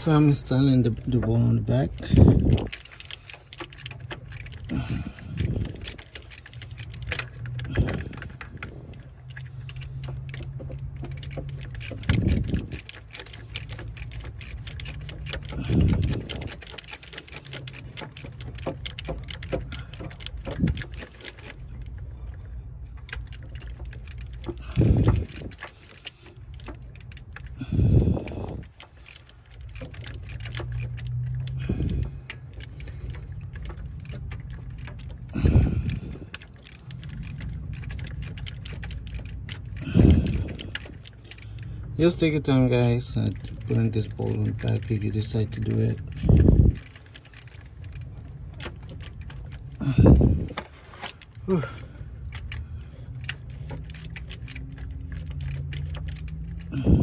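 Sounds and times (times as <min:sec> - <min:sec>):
low background hum: 0:00.0 - 0:57.0
wrench clicking and clinking: 0:00.0 - 0:57.0.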